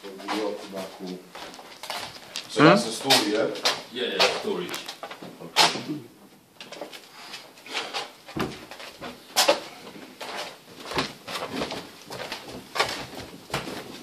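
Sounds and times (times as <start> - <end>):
footsteps climbing stairs: 0.0 - 14.0.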